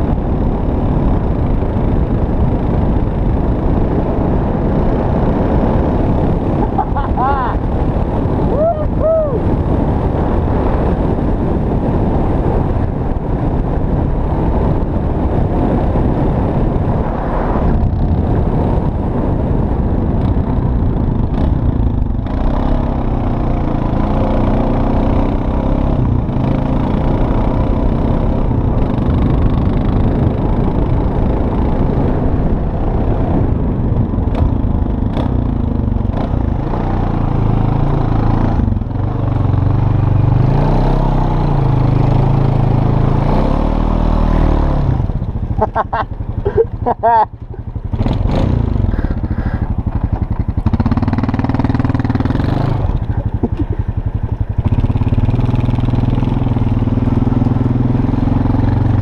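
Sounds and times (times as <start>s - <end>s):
quad engine running: 0.0s - 59.0s.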